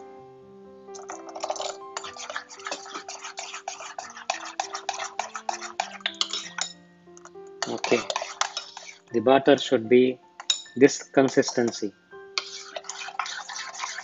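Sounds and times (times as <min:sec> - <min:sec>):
soft background music: 0:00.0 - 0:14.0
spoon clinking on ceramic bowl: 0:01.0 - 0:09.0, 0:10.4 - 0:14.0.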